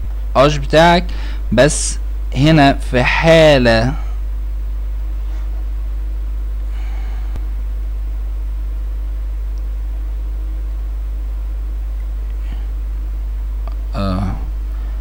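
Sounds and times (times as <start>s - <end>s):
low electrical hum: 0.0s - 15.0s
microphone hiss: 0.0s - 15.0s.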